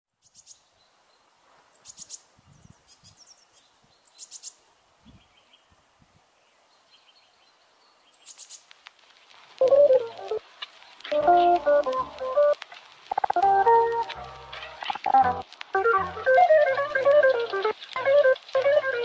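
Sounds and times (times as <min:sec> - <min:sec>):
songbirds chirping: 0:00.1 - 0:08.8, 0:09.6 - 0:15.4, 0:16.2 - 0:19.0.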